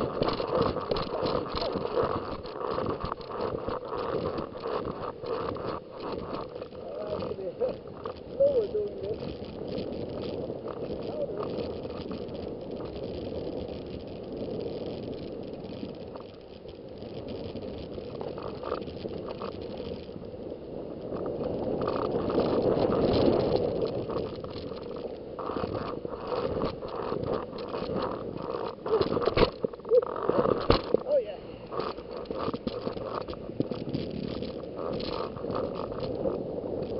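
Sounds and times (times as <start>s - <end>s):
skis sliding through powder snow: 0.0s - 36.9s.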